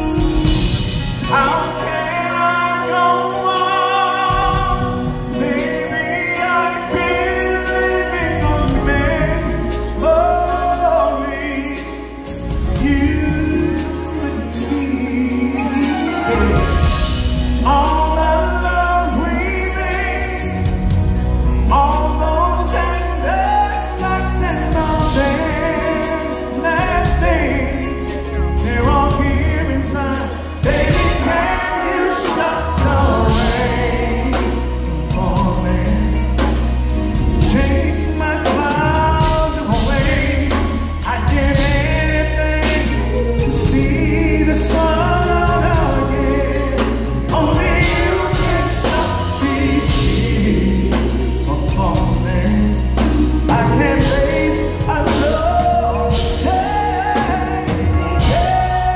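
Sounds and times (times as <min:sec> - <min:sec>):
congas: 0:00.0 - 0:58.9
live band playing ballad: 0:00.0 - 0:58.9
people singing: 0:00.0 - 0:58.9.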